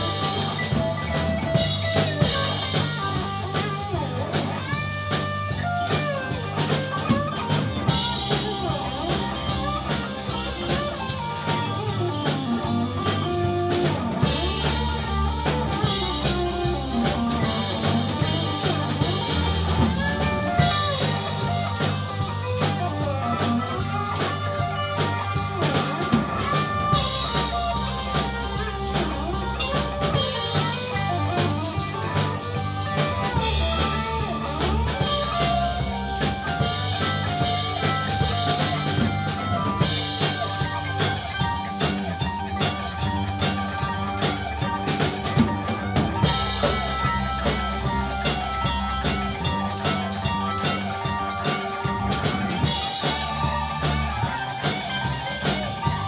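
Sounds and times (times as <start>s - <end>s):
electric guitar lead bending notes: 0.0s - 56.0s
live blues band playing: 0.0s - 56.0s.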